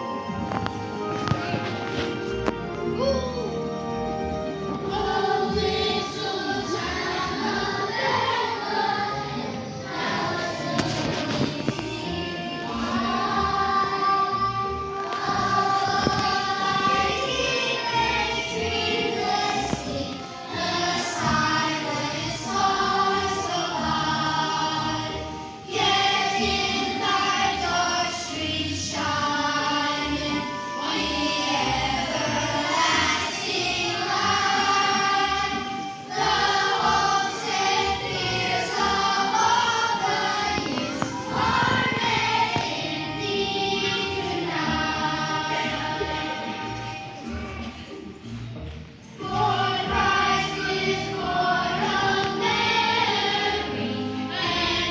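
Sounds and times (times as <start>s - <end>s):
instrumental accompaniment: 0.0s - 54.9s
choir singing: 3.5s - 48.4s, 49.0s - 54.9s.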